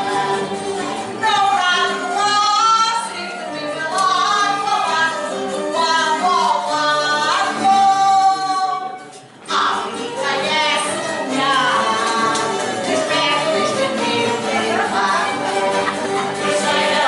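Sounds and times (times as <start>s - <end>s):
people singing: 0.0s - 8.8s, 9.5s - 17.0s
instrumental accompaniment: 0.0s - 17.0s.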